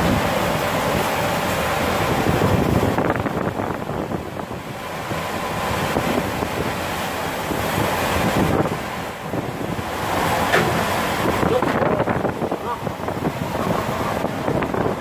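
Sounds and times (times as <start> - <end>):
rough sea breaking: 0.0 - 15.0
storm wind buffeting microphone: 0.0 - 15.0.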